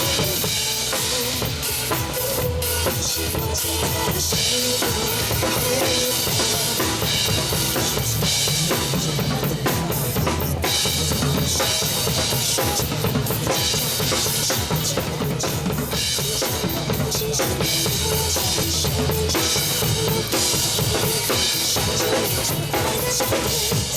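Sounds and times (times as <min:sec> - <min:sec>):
pop backing music: 0:00.0 - 0:23.9
steady drum-kit beat: 0:00.0 - 0:23.9.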